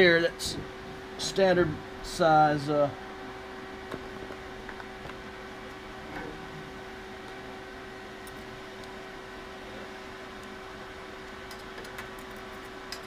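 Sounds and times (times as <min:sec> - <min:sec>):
workshop hum and fan hiss: 0:00.0 - 0:13.0.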